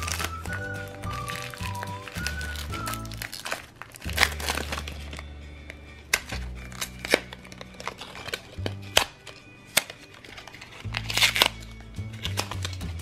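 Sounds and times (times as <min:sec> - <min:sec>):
background music: 0:00.0 - 0:13.0
foil bag crinkling: 0:00.0 - 0:13.0
plastic basket snapping open: 0:02.2 - 0:13.0.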